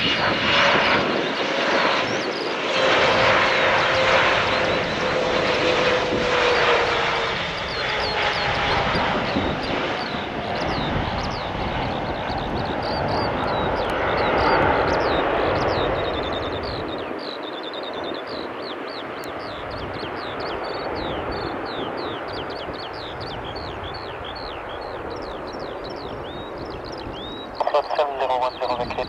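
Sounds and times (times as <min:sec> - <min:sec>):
jet airliner engine noise: 0:00.0 - 0:29.0
small birds chirping: 0:00.1 - 0:03.0, 0:03.6 - 0:29.0.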